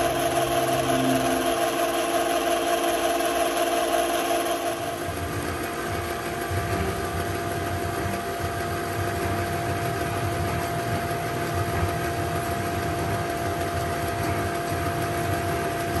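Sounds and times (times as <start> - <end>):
film projector motor whining: 0.0 - 16.0.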